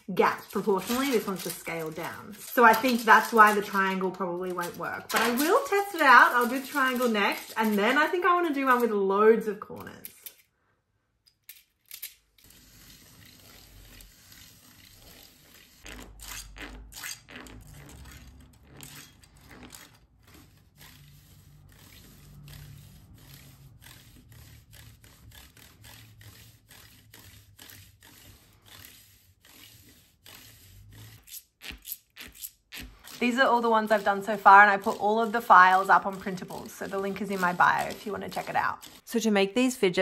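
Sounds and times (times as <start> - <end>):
plastic fidget toy scraping and clicking: 0.0 - 10.5, 11.5 - 40.0.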